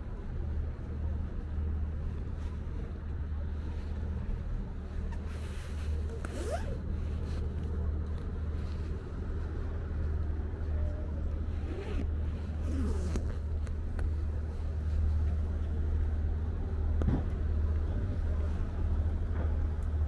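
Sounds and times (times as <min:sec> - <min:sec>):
road traffic rumble: 0:00.0 - 0:20.0
vehicles passing: 0:00.0 - 0:20.0.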